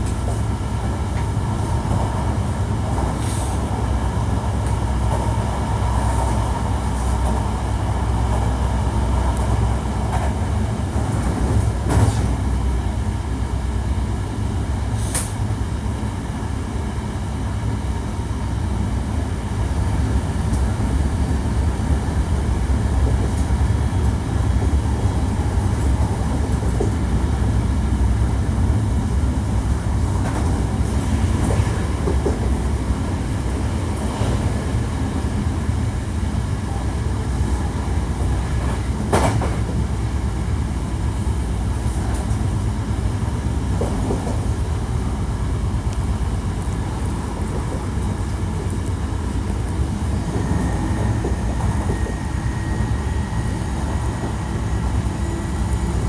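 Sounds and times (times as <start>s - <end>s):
electric train rumbling on rails: 0.0s - 56.0s.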